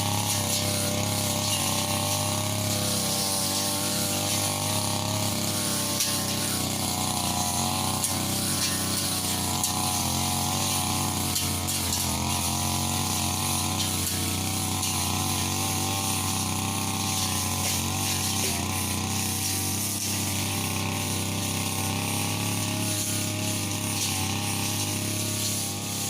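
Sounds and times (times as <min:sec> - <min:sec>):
brush cutter engine running: 0:00.0 - 0:26.0.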